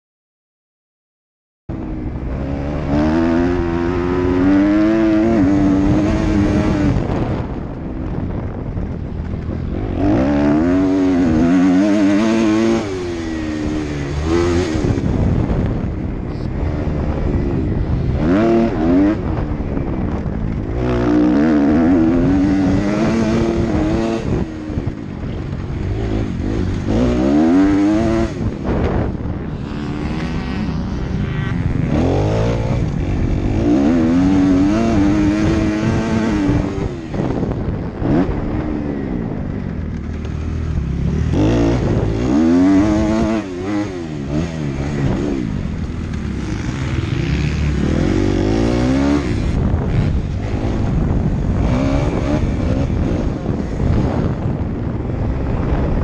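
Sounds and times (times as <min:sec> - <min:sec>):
motorcycle engine revving: 0:01.7 - 0:56.0.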